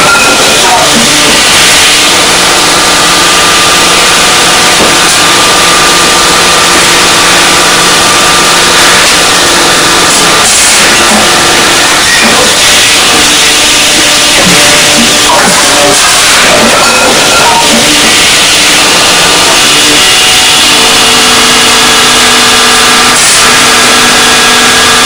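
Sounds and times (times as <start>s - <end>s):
press machine hum and hiss: 0.0s - 25.0s.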